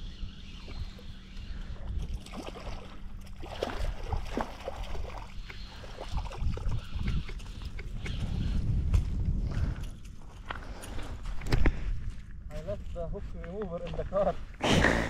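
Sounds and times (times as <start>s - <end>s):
wind rumble on microphone: 0.0s - 14.8s.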